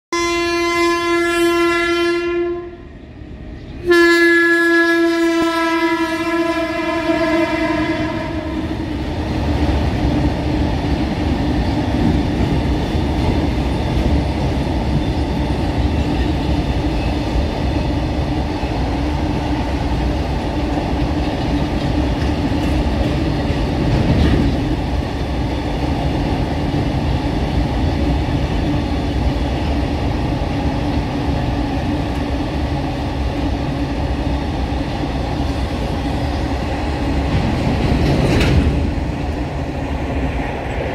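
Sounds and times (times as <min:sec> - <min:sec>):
freight train wheels on rails: 0:00.4 - 0:40.9.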